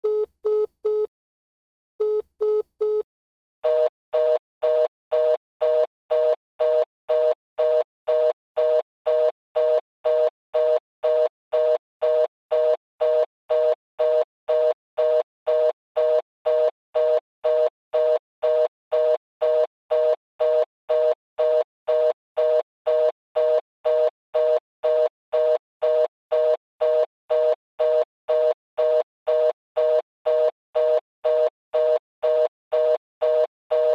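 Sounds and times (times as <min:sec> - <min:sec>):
telephone beeps: 0:00.0 - 0:01.1, 0:02.0 - 0:33.9.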